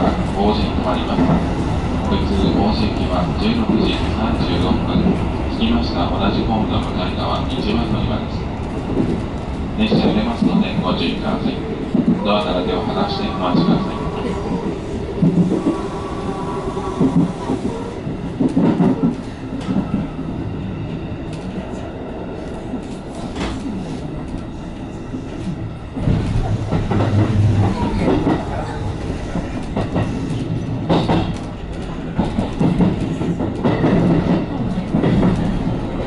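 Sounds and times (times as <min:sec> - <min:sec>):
train running gear rumble: 0:00.0 - 0:36.0.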